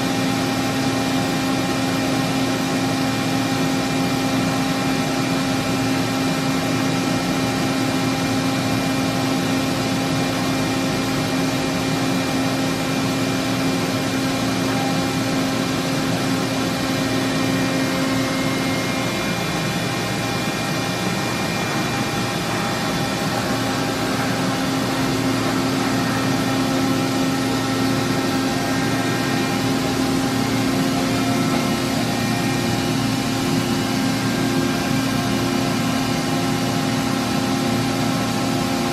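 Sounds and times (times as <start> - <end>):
boring mill humming: 0.0 - 38.9.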